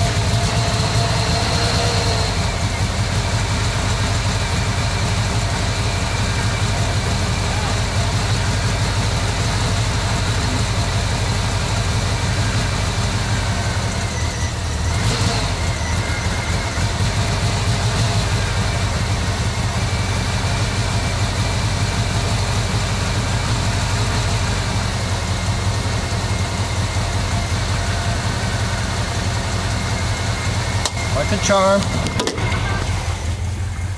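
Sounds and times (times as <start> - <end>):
van engine running: 0.0 - 33.9.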